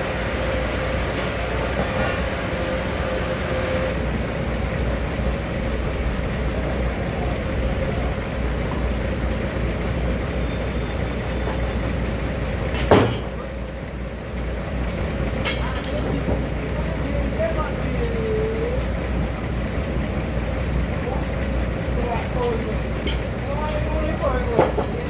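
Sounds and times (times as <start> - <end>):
sawmill machinery humming: 0.0 - 25.0.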